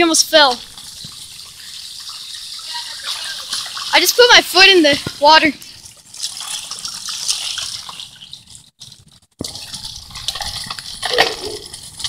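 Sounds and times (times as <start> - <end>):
water splashing in puddle: 0.0 - 12.0.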